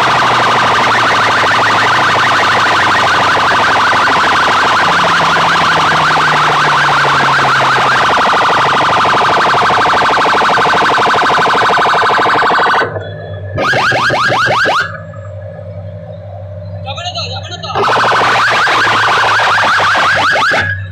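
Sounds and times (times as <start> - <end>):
siren alarm warbling: 0.0 - 16.8, 17.5 - 20.9.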